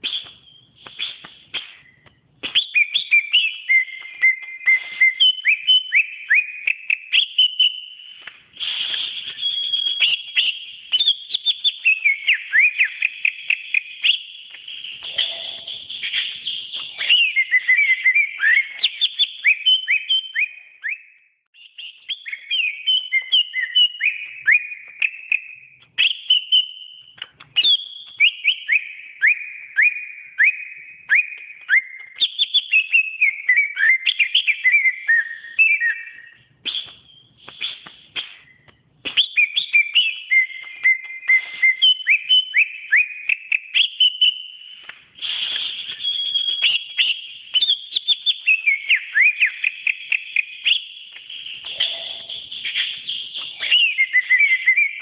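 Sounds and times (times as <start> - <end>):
bird singing whistled notes: 0.0 - 55.0.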